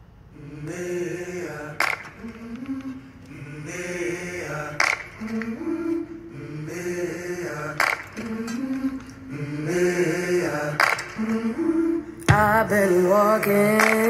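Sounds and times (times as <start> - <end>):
wordless choir-like vocals: 0.3 - 14.0.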